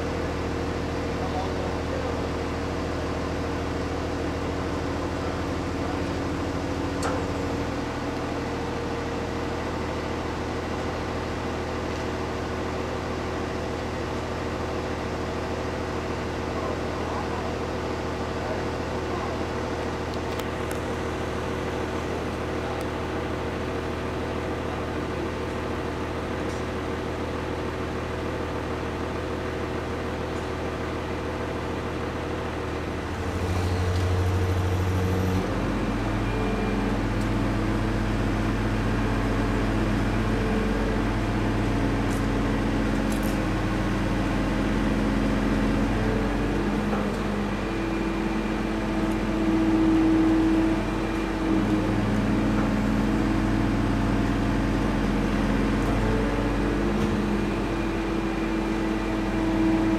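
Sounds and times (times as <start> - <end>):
crane engine droning: 0.0 - 59.9.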